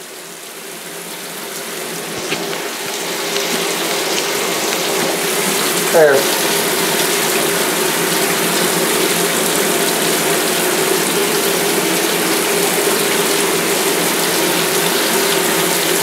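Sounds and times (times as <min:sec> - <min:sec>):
shower spray splashing into water: 0:01.2 - 0:16.0.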